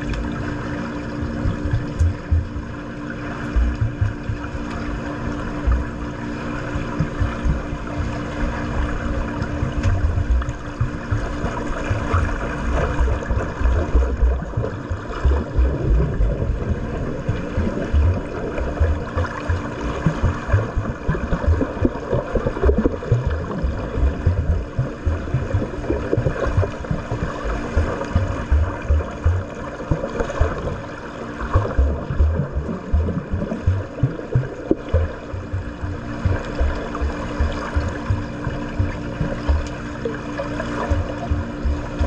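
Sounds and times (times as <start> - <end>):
pool water splashing: 0.0 - 42.0
low thuds of water: 1.2 - 2.8, 3.4 - 6.1, 6.8 - 42.0.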